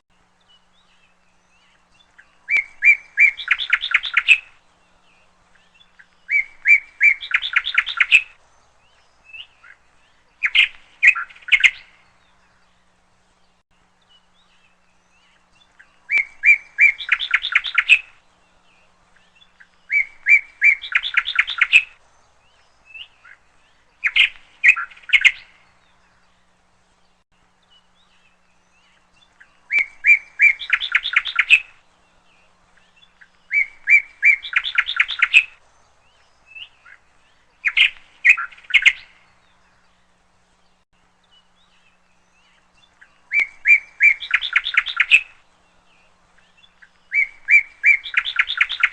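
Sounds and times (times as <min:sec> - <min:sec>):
bird song chirps: 0:00.0 - 0:48.9.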